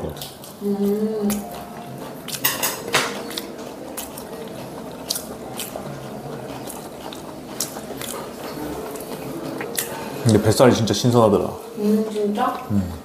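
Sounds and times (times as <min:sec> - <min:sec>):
chewing raw fish: 0:00.2 - 0:11.4.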